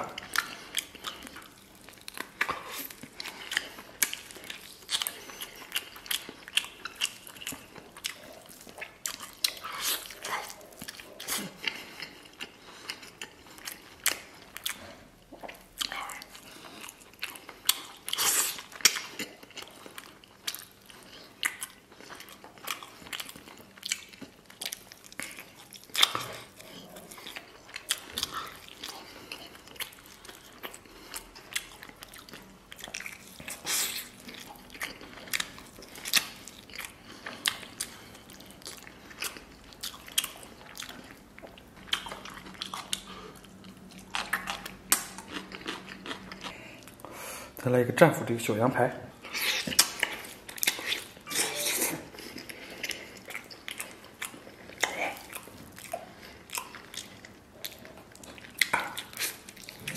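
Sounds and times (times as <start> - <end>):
biting and chewing meat: 0.0 - 47.1, 49.1 - 59.9.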